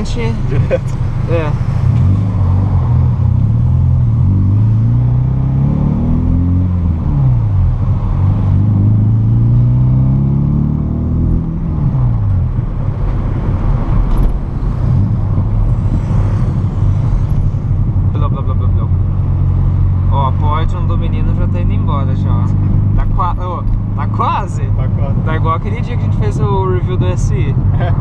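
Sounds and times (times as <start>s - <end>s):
car engine and exhaust accelerating: 0.0s - 28.0s.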